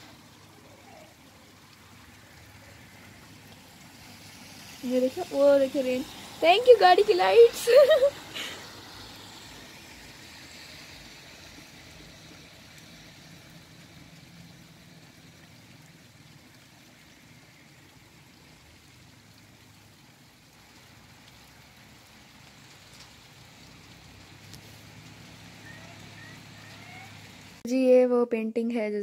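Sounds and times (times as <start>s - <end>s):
heavy rain hissing: 0.0s - 27.6s.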